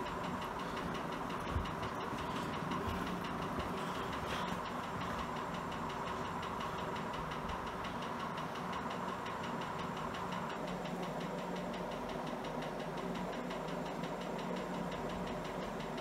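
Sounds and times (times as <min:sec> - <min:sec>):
ceiling fan running: 0:00.0 - 0:16.0.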